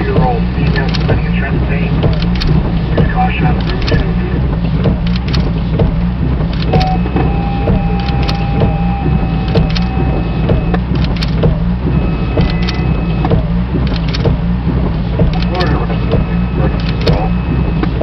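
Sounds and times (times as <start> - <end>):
faint steady tones: 0.0 - 18.0
low engine rumble: 0.0 - 18.0
scattered clicks: 0.0 - 18.0.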